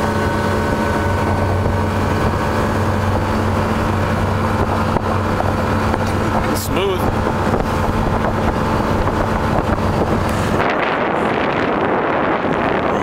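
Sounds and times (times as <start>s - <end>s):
constant rushing noise: 0.0s - 13.0s
motorboat engine running: 0.0s - 13.0s.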